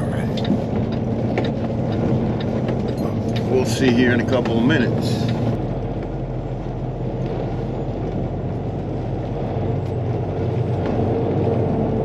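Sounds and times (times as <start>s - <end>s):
diesel truck engine humming: 0.0s - 12.0s.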